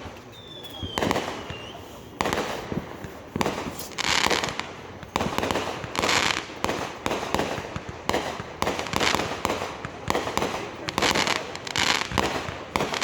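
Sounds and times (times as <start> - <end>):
fireworks bangs: 0.0 - 13.0
fireworks hissing crackle: 0.0 - 13.0.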